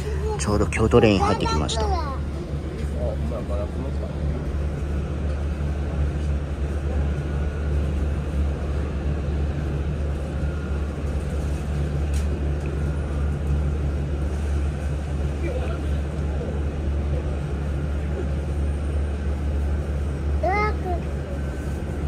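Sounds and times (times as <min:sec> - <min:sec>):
train cabin hum and rumble: 0:00.0 - 0:22.0.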